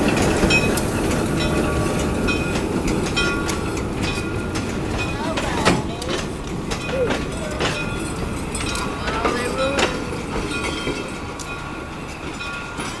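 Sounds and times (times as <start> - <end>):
steel wheels rumbling on rails: 0.0 - 13.0
wheels clacking over rail joints: 0.0 - 13.0.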